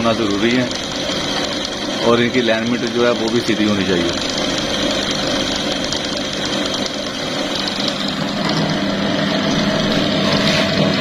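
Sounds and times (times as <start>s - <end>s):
belts turning on pulleys: 0.0s - 11.0s
buttonhole machine motor humming: 0.0s - 11.0s.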